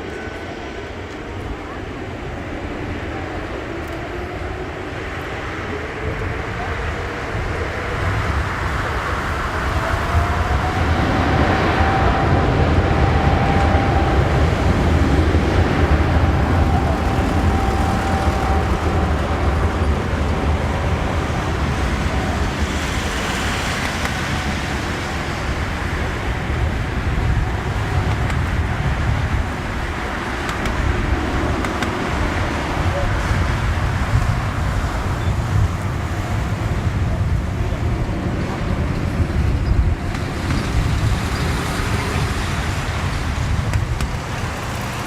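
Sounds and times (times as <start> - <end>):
jet engines rumbling: 0.0 - 45.0
thin engine whine: 0.0 - 45.0.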